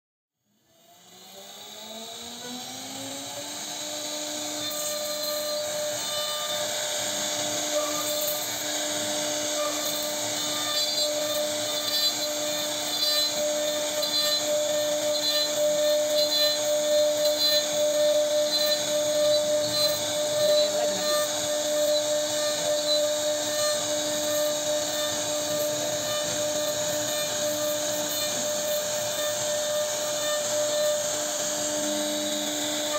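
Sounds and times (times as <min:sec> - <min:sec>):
router spindle whine: 0:00.4 - 0:32.9
bit cutting wood hiss: 0:02.9 - 0:32.9.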